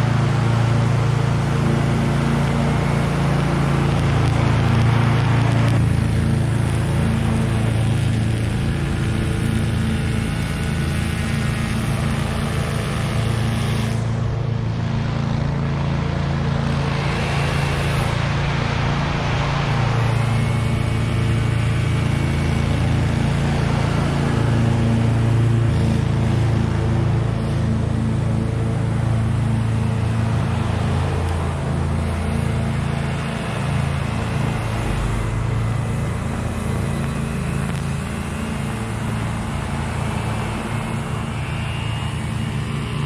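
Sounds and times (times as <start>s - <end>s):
mower engine running: 0.0s - 43.0s.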